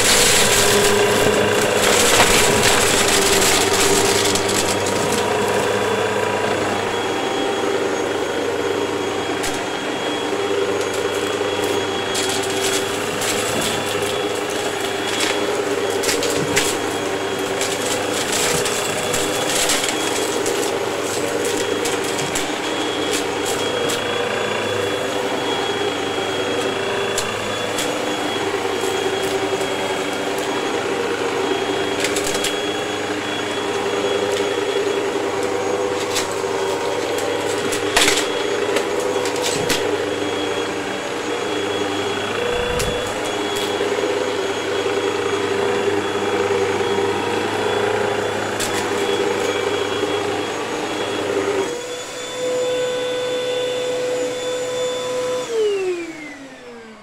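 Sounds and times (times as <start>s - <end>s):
vacuum cleaner motor drone: 0.0s - 57.0s.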